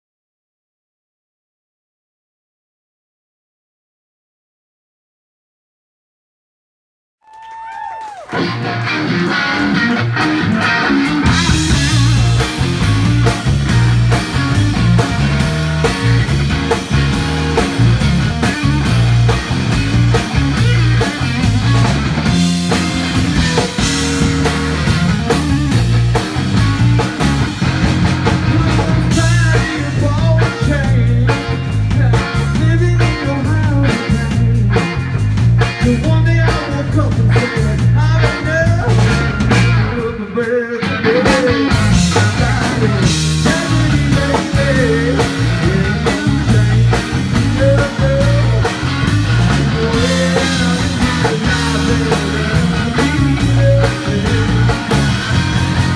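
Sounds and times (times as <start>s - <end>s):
bending lead guitar line: 8.2s - 55.9s
blues-rock band playing: 8.2s - 55.9s.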